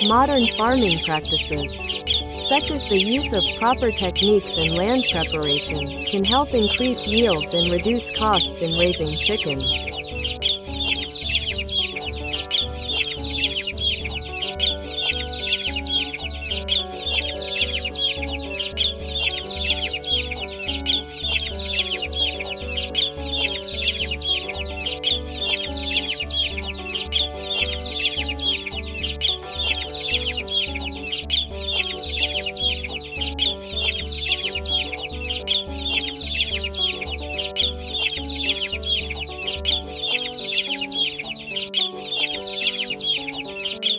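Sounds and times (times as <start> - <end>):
music with bass beat: 0.0 - 43.5
chickens clucking and peeping: 0.0 - 43.9.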